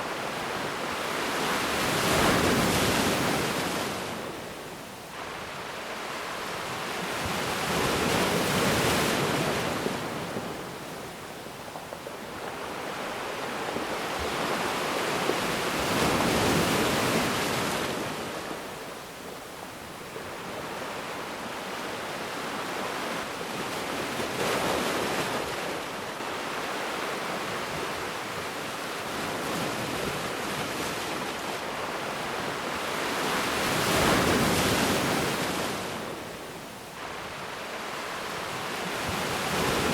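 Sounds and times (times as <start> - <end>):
ocean waves breaking on a beach: 0.0 - 39.9.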